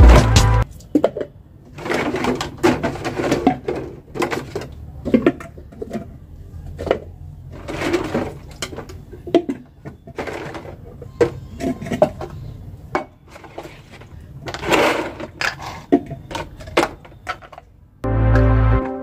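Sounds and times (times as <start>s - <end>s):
plastic containers clattering: 0.6s - 17.8s.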